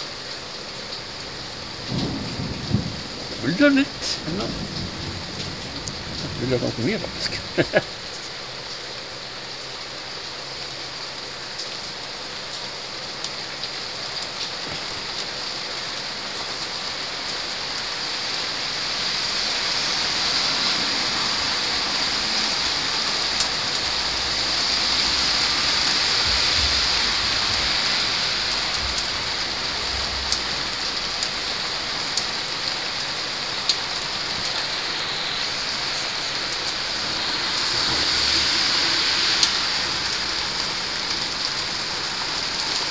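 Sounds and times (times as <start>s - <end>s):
heavy rain pouring onto roofs: 0.0s - 42.9s.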